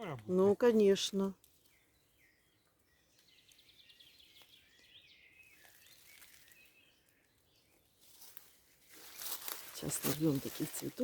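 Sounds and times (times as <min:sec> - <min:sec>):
faint songbird song: 0:00.0 - 0:11.0.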